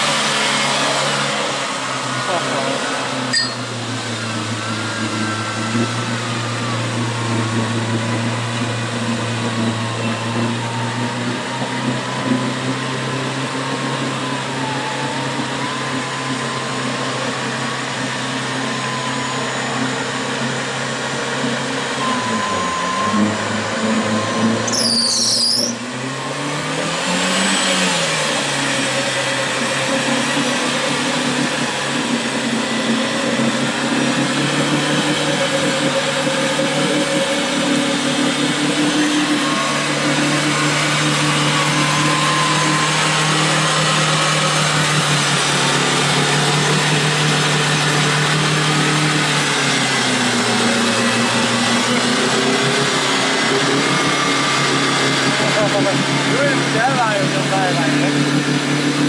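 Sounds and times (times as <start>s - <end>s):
off-road vehicle engine running: 0.0s - 59.0s
whirring winch motor: 0.0s - 59.0s
high squeal: 3.3s - 7.2s, 13.9s - 26.4s, 27.3s - 59.0s.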